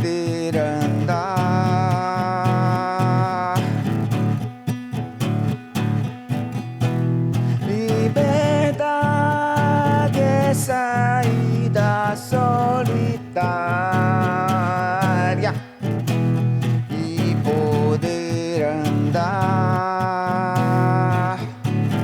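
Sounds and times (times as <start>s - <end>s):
person singing: 0.0s - 4.4s, 6.9s - 22.0s
strummed acoustic guitar: 0.0s - 22.0s.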